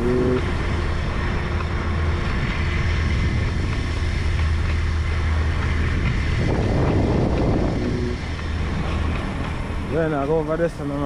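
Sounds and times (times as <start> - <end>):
wind noise on microphone: 0.0 - 9.9
road noise: 0.0 - 11.0.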